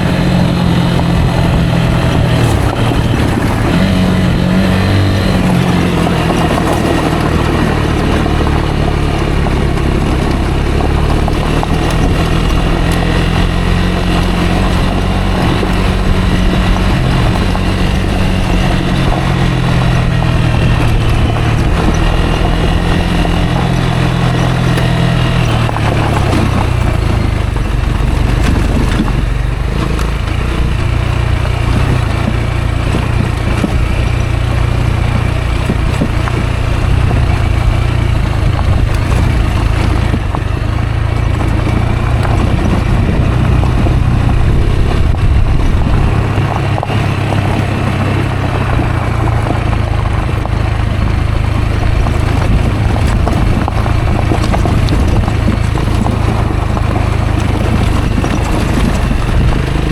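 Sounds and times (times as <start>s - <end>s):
motorcycle engine running: 0.0s - 59.9s
steady rushing noise: 0.0s - 59.9s.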